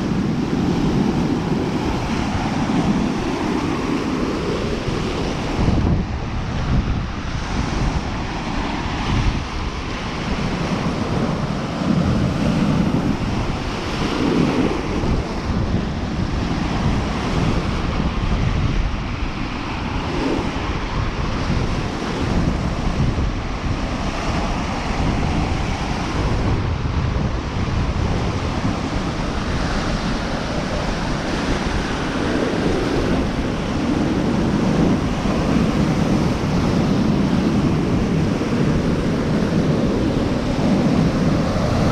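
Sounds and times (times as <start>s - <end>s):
waves washing onto shore: 0.0s - 41.9s
wind buffeting microphone: 0.0s - 41.9s.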